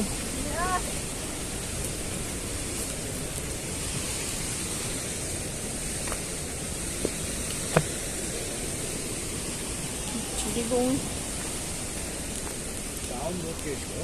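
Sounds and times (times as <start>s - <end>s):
stream and waterfall rushing: 0.0s - 14.0s.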